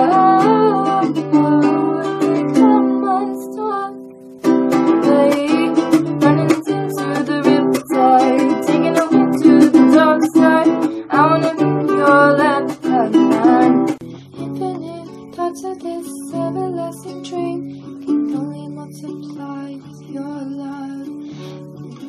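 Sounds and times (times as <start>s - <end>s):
woman singing: 0.0s - 4.2s, 4.8s - 22.0s
strummed ukulele: 0.0s - 22.0s.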